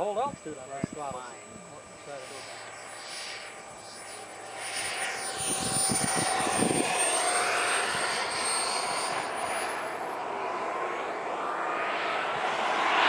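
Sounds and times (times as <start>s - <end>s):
model jet turbine whining by: 0.0s - 13.0s.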